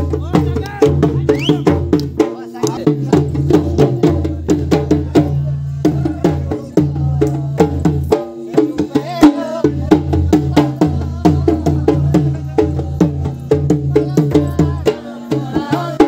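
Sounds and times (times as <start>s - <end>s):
hand drum fast rhythm: 0.0s - 16.0s.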